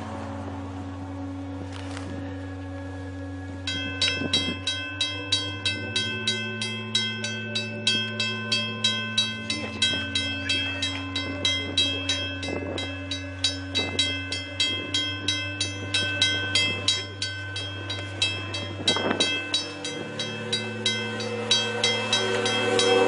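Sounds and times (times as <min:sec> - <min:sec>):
diesel train droning: 0:00.0 - 0:23.0
level-crossing bell ringing: 0:02.6 - 0:23.0.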